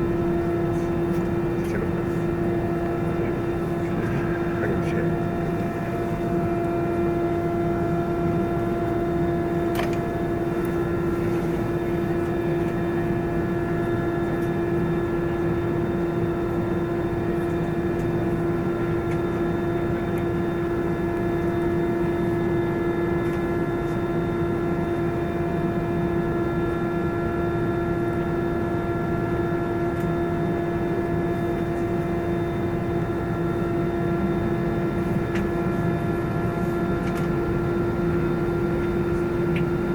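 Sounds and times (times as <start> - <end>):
jet engines humming: 0.0 - 39.9.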